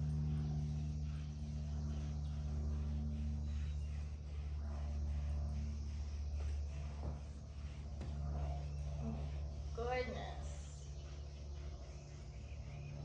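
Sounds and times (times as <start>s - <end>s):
comb scratching over coat: 0.0s - 13.0s
steady low hum: 0.0s - 13.0s.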